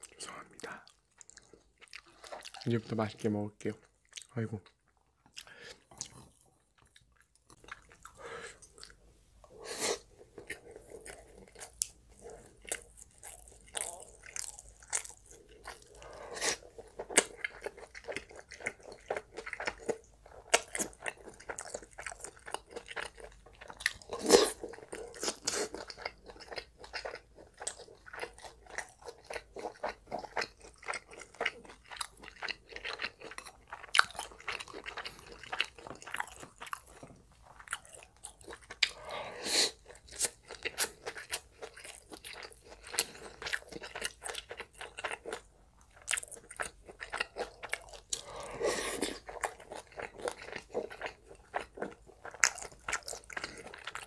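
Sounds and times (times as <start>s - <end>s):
close chewing and biting: 0.0s - 3.2s, 3.8s - 9.0s, 10.0s - 54.0s.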